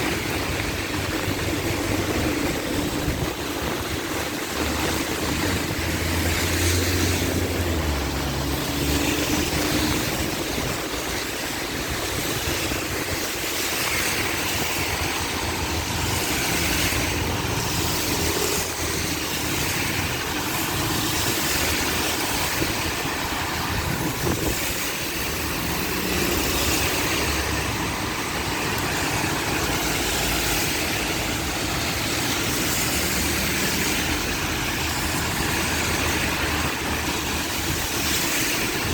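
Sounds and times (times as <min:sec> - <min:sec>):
heavy rain pouring: 0:00.0 - 0:38.9
vehicle engines rumbling: 0:00.0 - 0:38.9.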